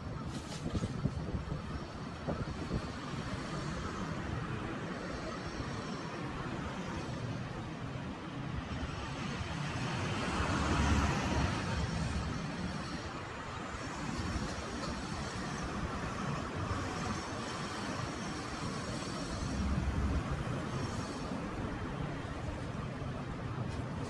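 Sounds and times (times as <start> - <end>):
cars driving past: 2.7 - 24.0.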